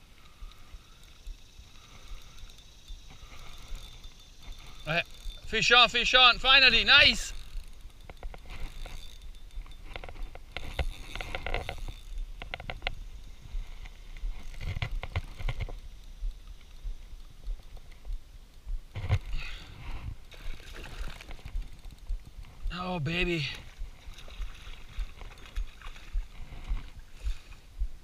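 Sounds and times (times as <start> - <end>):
fishing reel clicking: 0.0 - 27.6.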